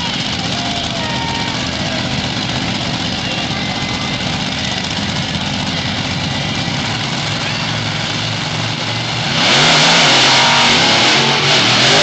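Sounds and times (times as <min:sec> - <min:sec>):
truck engines idling: 0:00.0 - 0:12.0.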